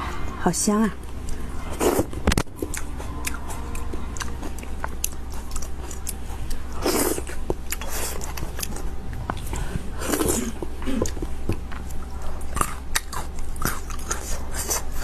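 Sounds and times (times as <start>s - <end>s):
chewing and biting: 1.2s - 15.0s.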